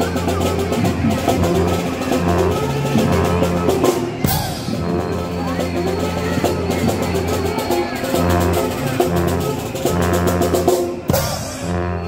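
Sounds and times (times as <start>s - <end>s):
voices over music: 0.0s - 9.9s
drums: 0.0s - 12.0s.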